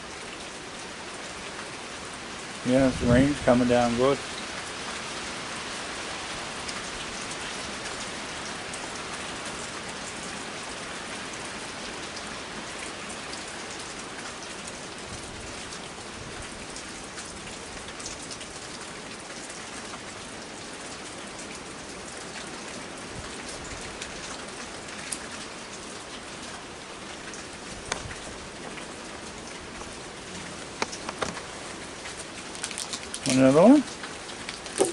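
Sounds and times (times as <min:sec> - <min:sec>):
heavy rain on hard surfaces: 0:00.0 - 0:34.9.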